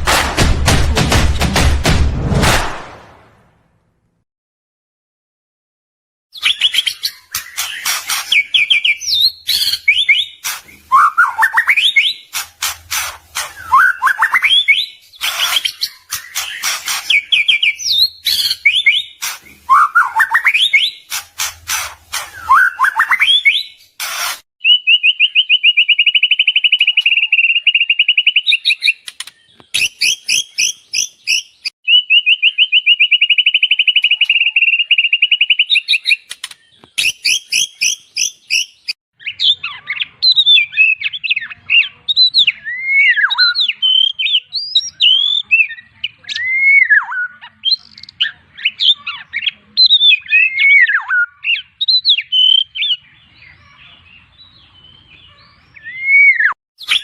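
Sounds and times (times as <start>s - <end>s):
bird singing trills and whistles: 6.3s - 57.0s.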